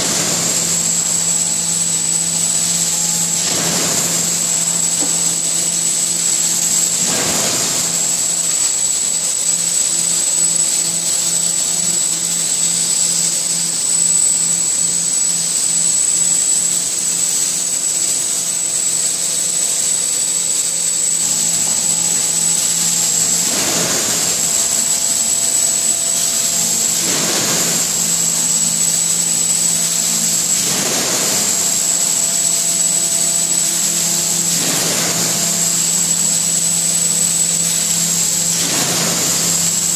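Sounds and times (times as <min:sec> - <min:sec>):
collating machine running: 0:00.0 - 0:39.9
high whine: 0:00.0 - 0:39.9.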